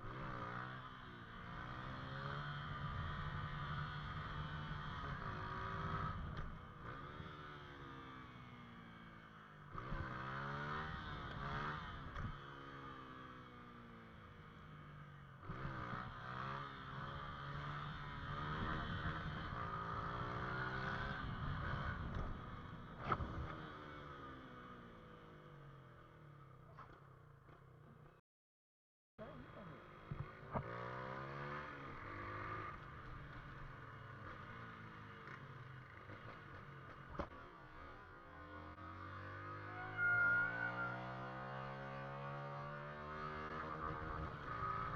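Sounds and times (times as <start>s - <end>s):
motorcycle engine revving: 0.0s - 14.4s, 15.4s - 25.8s, 29.2s - 44.9s.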